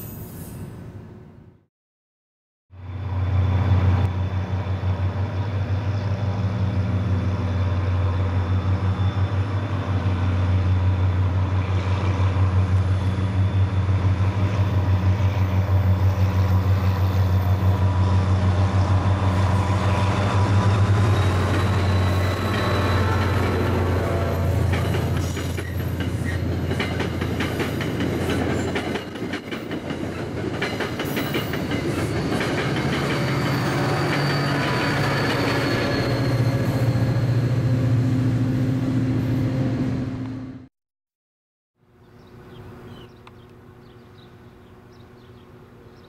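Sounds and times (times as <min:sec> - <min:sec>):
diesel train rumbling: 0:02.7 - 0:40.7.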